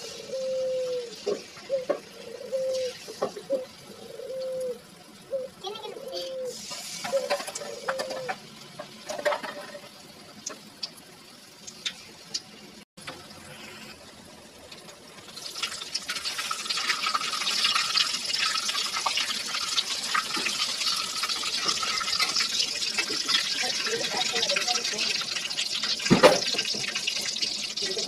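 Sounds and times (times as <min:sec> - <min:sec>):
batter deep-frying in hot oil: 0:00.0 - 0:28.0.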